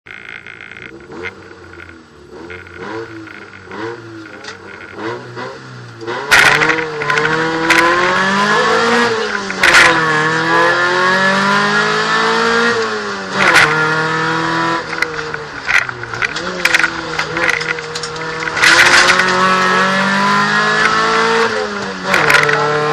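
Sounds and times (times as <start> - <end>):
car engine revving and accelerating: 0.7 - 22.9.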